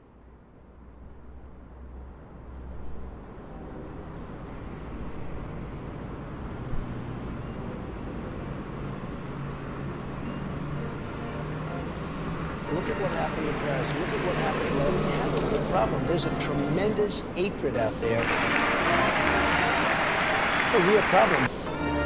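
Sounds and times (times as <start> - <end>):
road traffic noise: 0.5 - 22.0.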